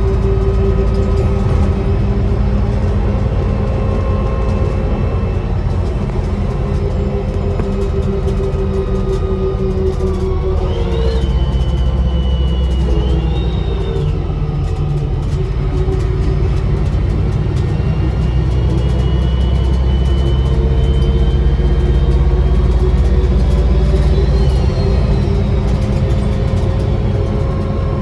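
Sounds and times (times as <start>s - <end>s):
bus diesel engine under load: 0.0s - 28.0s
turbocharger whistle: 0.0s - 28.0s.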